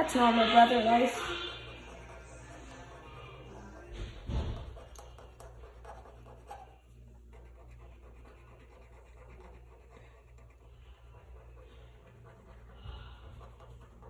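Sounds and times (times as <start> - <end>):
marker scratching on paper: 0.0 - 14.0.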